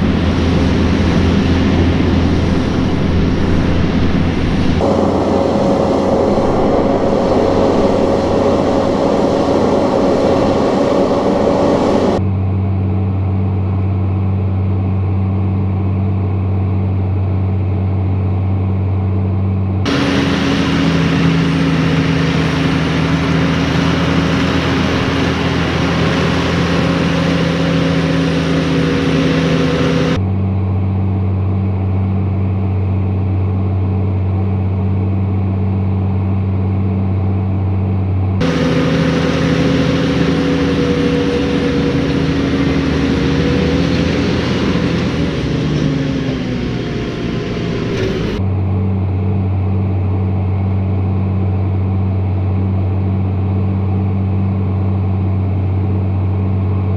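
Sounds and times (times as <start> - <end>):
tractor engine running: 0.0 - 13.4, 19.1 - 54.8.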